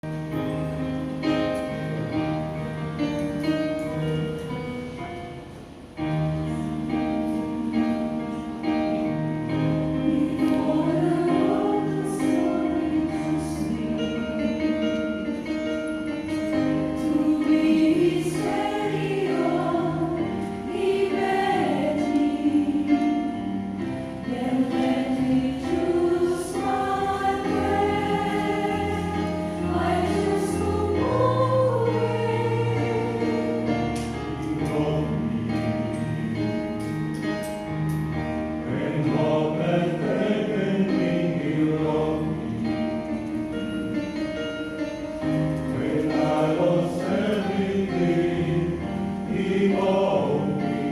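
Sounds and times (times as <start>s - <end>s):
choir singing gospel: 6.4s - 37.3s, 38.2s - 44.6s, 45.2s - 50.9s.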